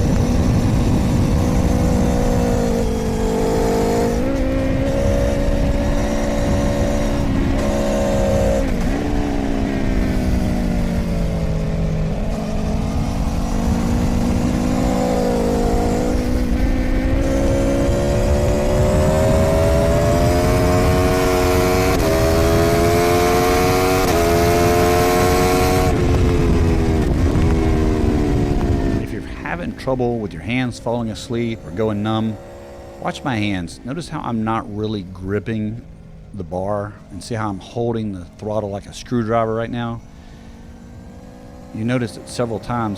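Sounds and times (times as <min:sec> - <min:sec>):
wind rush: 0:00.0 - 0:35.9
motorcycle engine revving: 0:00.0 - 0:42.9.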